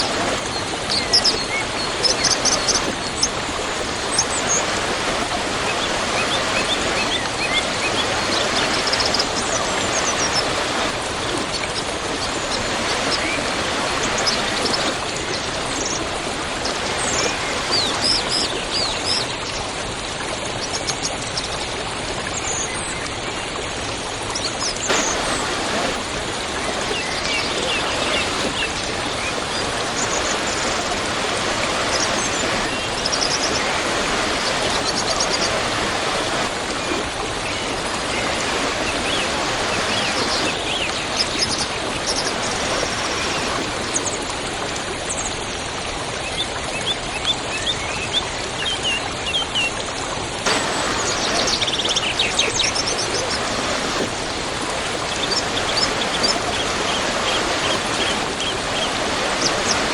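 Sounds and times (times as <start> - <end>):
birds chirping: 0.0 - 19.6, 24.3 - 44.3, 50.5 - 59.9
waterfall rushing: 0.0 - 20.4, 23.9 - 45.2, 50.3 - 59.9.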